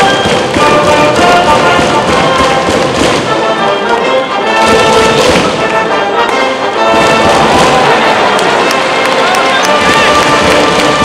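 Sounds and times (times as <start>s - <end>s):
steady drumbeat: 0.0s - 3.7s, 4.6s - 6.0s, 6.9s - 11.0s
brass band playing: 0.0s - 11.0s.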